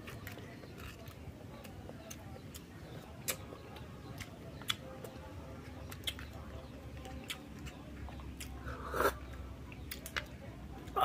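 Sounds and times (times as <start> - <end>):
mouth chewing: 0.0 - 11.0.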